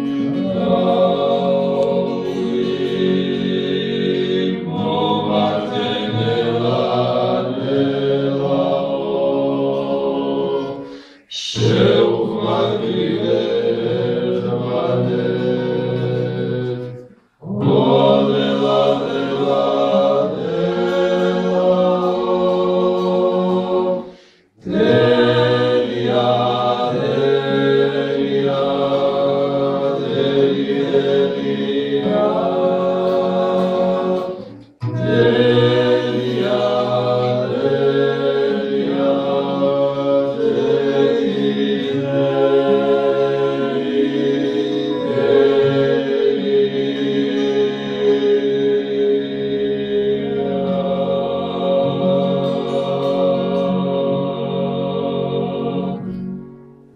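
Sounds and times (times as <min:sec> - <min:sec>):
male choir singing polyphonic folk song: 0:00.0 - 0:56.5.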